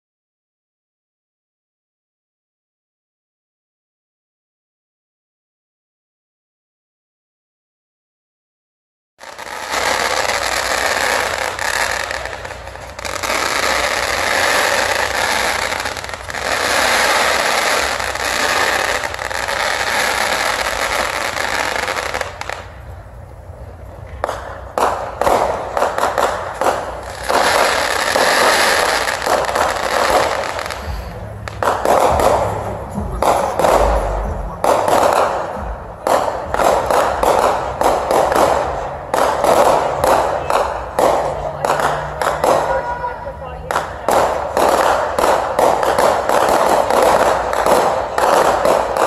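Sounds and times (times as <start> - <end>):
fireworks bangs and pops: 9.2 - 49.0
fireworks crackling: 9.2 - 49.0.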